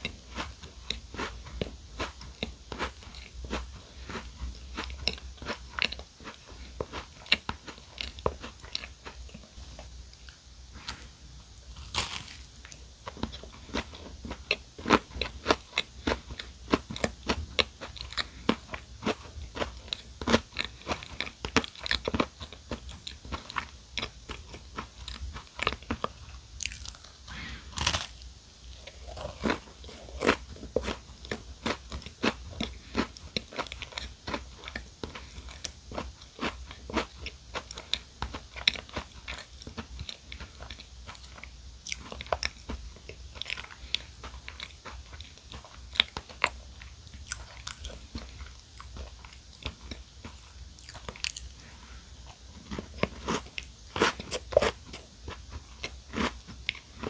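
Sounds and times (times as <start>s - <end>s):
crisp crunching and chewing: 0.0s - 11.1s, 11.8s - 57.0s.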